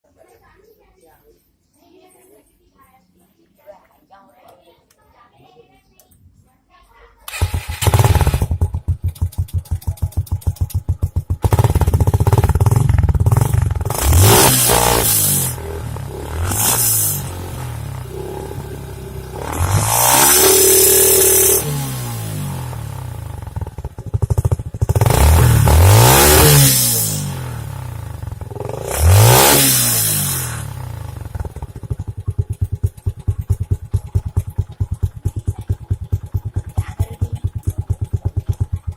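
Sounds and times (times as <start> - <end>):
motorcycle engine revving: 7.3 - 38.9.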